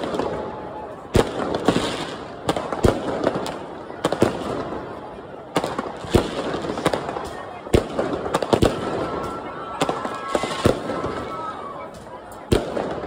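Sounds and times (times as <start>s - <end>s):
fireworks bursting with loud bangs: 0.0s - 13.0s
fireworks crackling: 0.0s - 13.0s.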